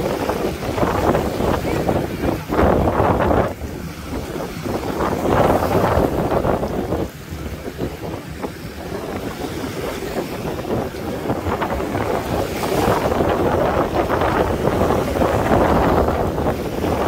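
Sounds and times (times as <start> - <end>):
surf washing onto beach: 0.0 - 17.0
wind rumbling on microphone: 0.0 - 17.0.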